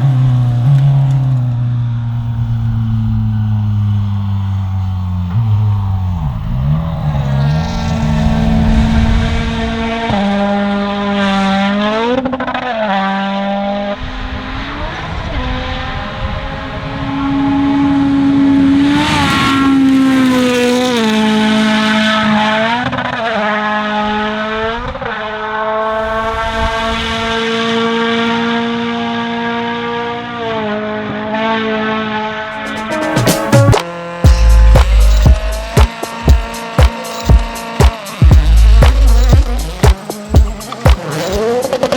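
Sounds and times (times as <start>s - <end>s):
gear change downshifts: 0.0s - 41.9s
rally car engine revving: 0.0s - 41.9s.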